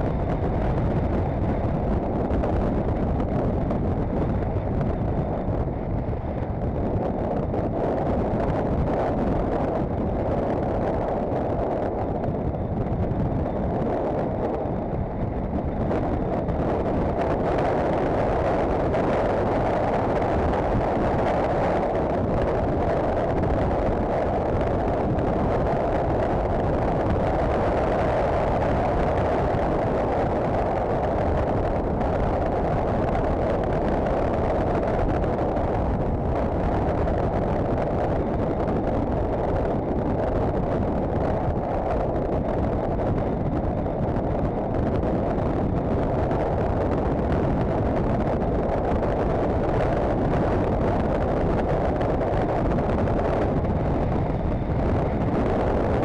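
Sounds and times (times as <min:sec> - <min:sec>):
motorcycle engine noise: 0:00.0 - 0:56.0
muffled rush of wind: 0:00.0 - 0:56.0.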